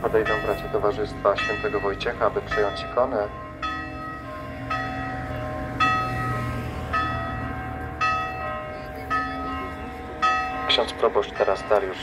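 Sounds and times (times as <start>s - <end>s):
church bell tolling: 0.0s - 12.0s.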